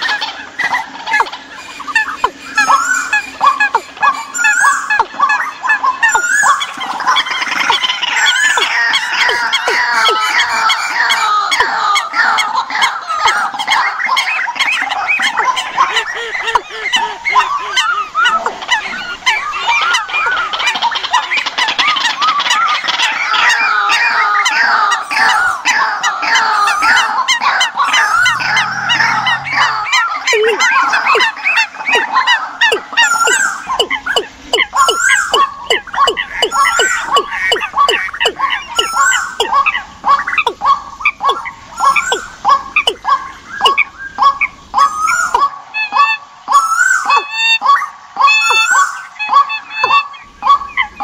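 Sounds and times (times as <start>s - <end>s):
chorus of bird calls: 0.0s - 51.0s.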